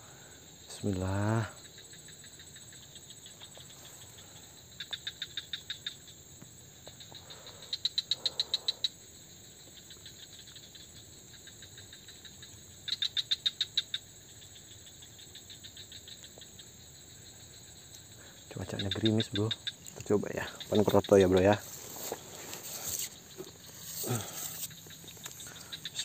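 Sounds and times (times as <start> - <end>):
cricket-like chirp: 0.0 - 26.0
high insect drone: 0.0 - 26.0.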